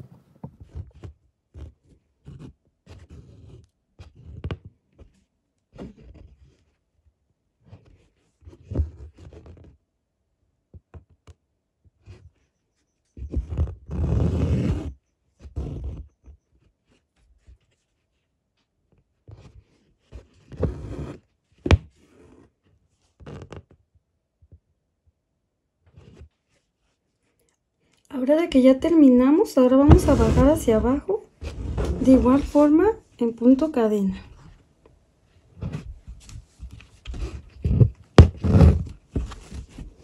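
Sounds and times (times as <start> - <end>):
needle and thread through fabric: 0.0 - 9.9, 10.7 - 24.6, 25.8 - 34.7, 35.3 - 40.0.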